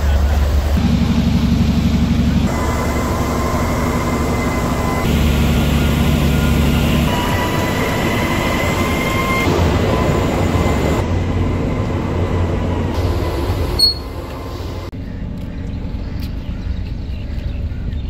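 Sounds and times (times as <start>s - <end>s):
machinery rumble and hiss: 0.0s - 14.9s
faint machine whine: 0.8s - 16.2s.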